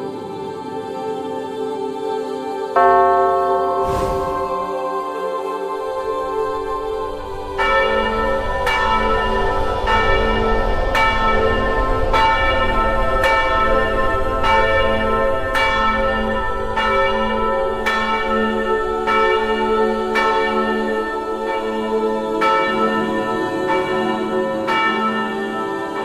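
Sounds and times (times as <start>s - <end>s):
church bell tolling: 2.8s - 5.2s, 6.1s - 26.0s.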